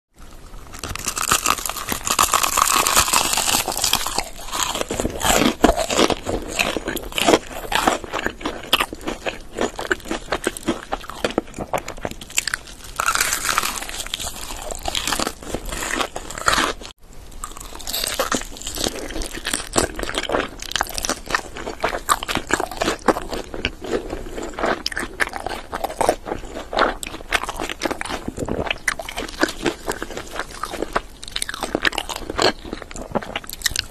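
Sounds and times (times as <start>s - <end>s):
crunching fried chicken: 0.2s - 33.9s
chewing: 0.7s - 33.9s.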